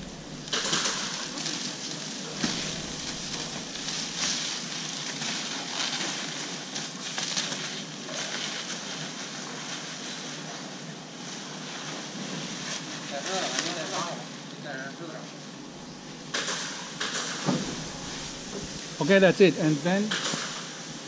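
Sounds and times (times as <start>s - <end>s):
plastic sheeting crackling: 0.0s - 21.0s.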